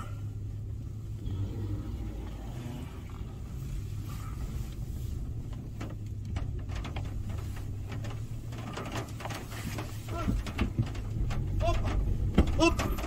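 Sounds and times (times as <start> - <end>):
engine running at low revs: 0.0 - 13.0
rapid clicks and creaks: 0.6 - 13.0.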